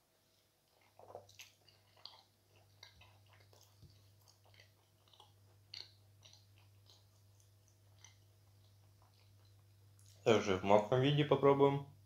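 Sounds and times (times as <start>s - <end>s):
low electrical hum: 0.0s - 12.0s
crunchy chewing: 0.3s - 10.3s.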